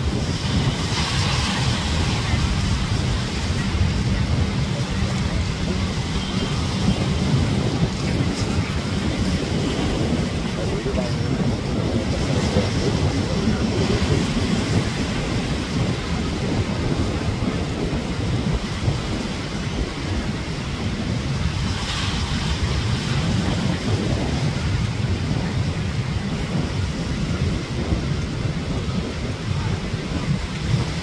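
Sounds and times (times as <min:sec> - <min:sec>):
ocean surf breaking on beach: 0:00.0 - 0:31.0
wind buffeting microphone: 0:00.0 - 0:31.0.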